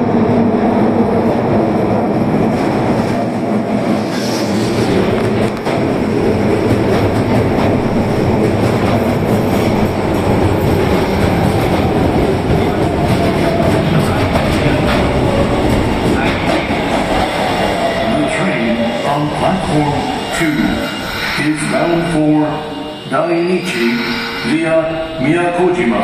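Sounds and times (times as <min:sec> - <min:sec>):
subway train wheels rumbling: 0:00.0 - 0:26.0.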